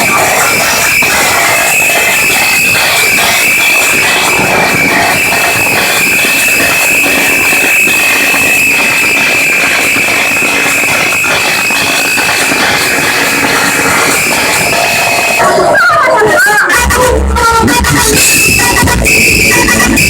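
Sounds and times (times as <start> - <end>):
high-pitched whistle: 0.0 - 15.8, 18.2 - 20.0
distorted loud car sound system: 0.0 - 20.0.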